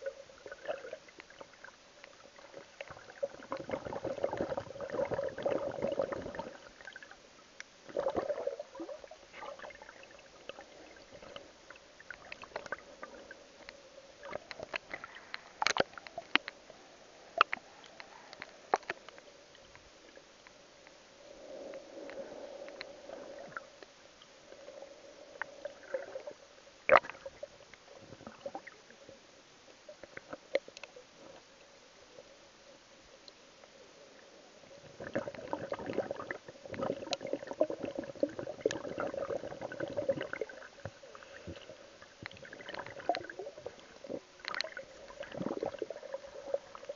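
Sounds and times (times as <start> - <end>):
sharp underwater clicks and crackles: 0.0 - 31.8, 33.2 - 46.9
muffled underwater sloshing: 0.0 - 46.9.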